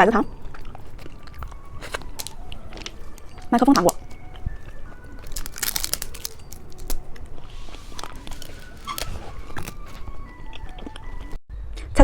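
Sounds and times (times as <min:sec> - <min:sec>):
candy crunching between teeth: 0:00.0 - 0:11.4
plastic wrappers crinkling: 0:00.0 - 0:11.4.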